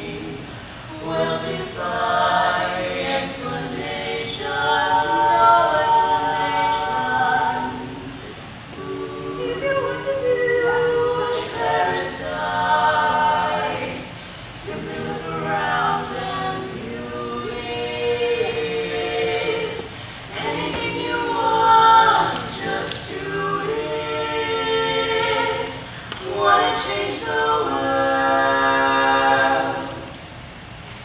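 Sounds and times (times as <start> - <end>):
women singing a cappella harmony: 0.0 - 30.8.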